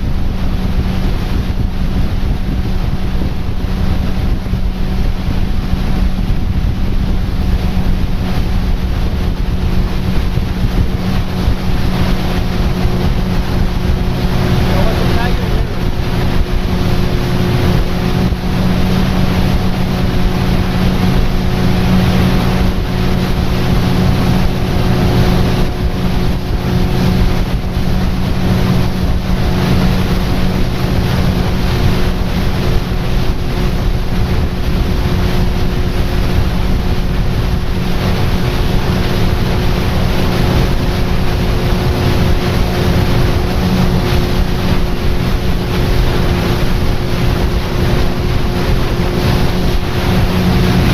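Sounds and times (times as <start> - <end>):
boat motor running: 0.0 - 50.9
water against hull: 0.0 - 50.9
wind on microphone: 0.0 - 50.9.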